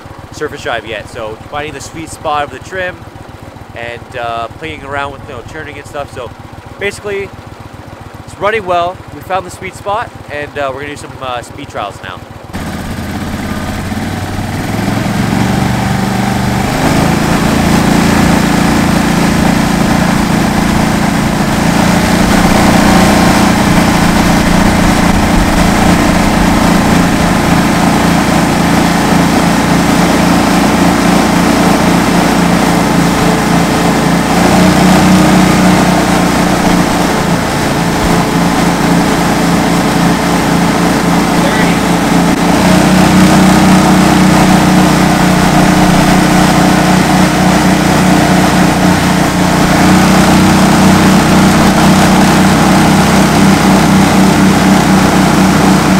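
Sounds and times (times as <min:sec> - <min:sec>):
boat motor running at high speed: 0:00.0 - 0:55.9.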